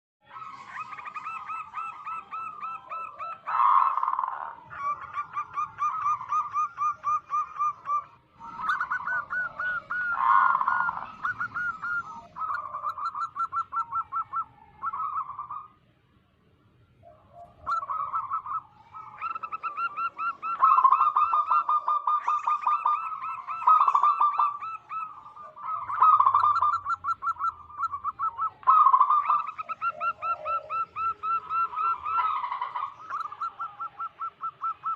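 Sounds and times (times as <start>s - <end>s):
dove cooing: 0.2s - 15.7s, 17.0s - 34.9s.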